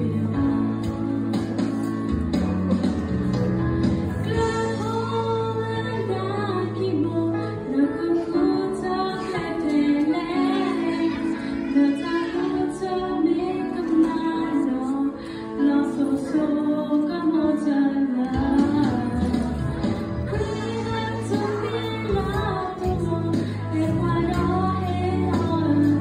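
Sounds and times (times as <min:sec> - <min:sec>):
instrumental accompaniment: 0:00.0 - 0:26.0
girl singing into a microphone: 0:04.2 - 0:26.0.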